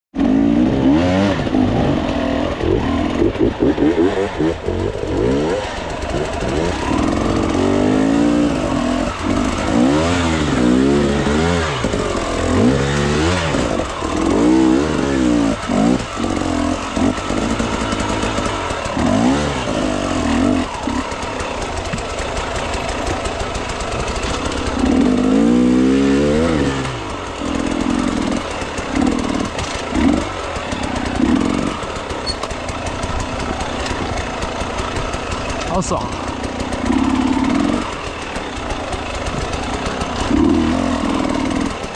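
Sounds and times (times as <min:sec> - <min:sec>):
dirt bike engine revving: 0:00.2 - 0:41.9.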